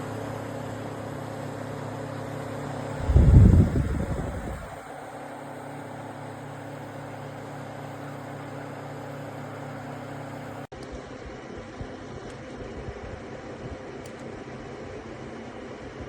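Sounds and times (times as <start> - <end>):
air cooler fan whirring: 0.0 - 16.0.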